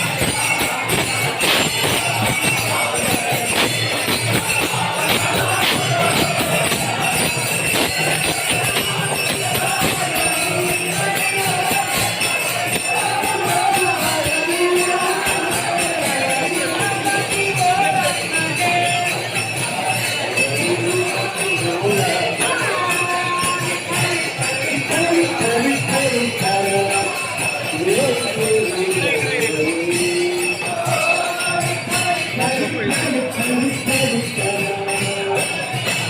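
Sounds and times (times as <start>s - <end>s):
shimmering high-pitched percussion: 0.0s - 36.0s.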